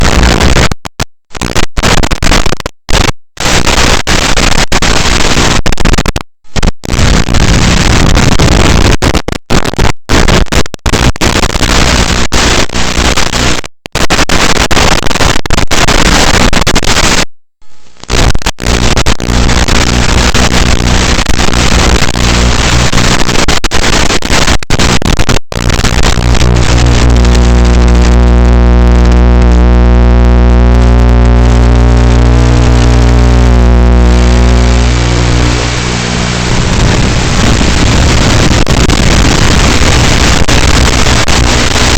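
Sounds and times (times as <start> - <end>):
loud hissing static: 0.0 - 41.9.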